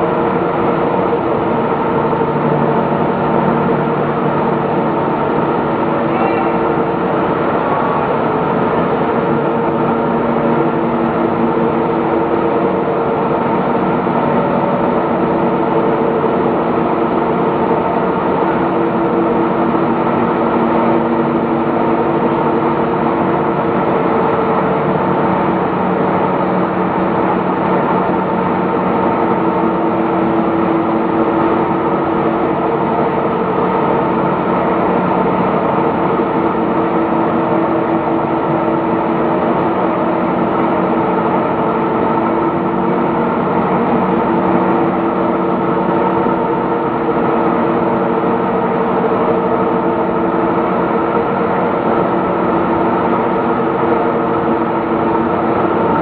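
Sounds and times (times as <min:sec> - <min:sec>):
industrial machinery humming: 0:00.0 - 0:56.0.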